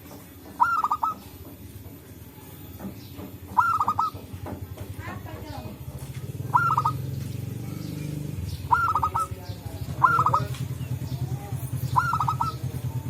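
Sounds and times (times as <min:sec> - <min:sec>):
dove calling: 0:00.0 - 0:13.0.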